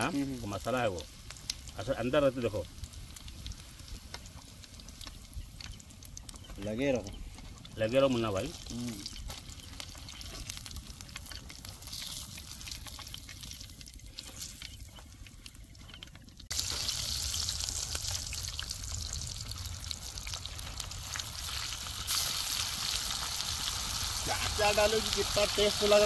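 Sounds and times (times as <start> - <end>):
fish frying with crackling pops: 0.0 - 26.0.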